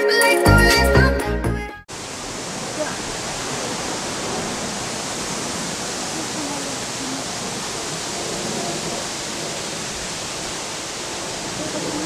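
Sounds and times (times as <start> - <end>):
steady outdoor hiss: 1.9 - 12.0.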